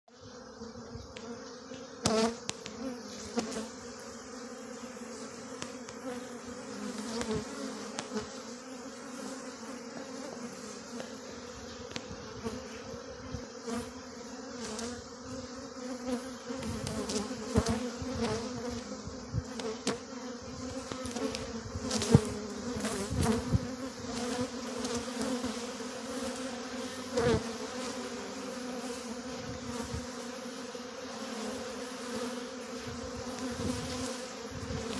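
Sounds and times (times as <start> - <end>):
bees humming: 0.1 - 34.9.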